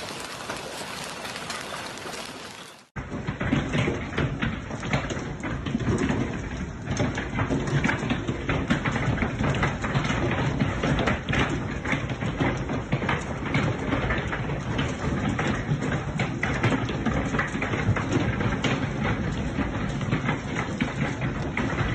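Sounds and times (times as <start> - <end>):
hailstones pelting down: 0.0 - 21.9.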